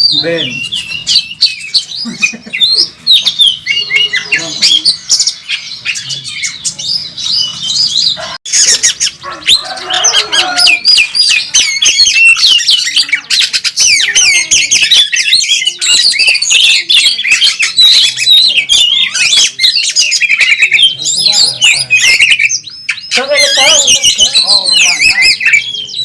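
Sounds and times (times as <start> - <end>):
bird singing: 0.0 - 26.0.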